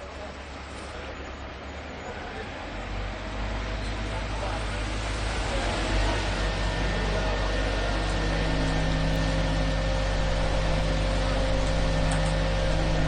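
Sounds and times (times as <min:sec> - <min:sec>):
concrete mixer engine hum: 0:00.0 - 0:13.0.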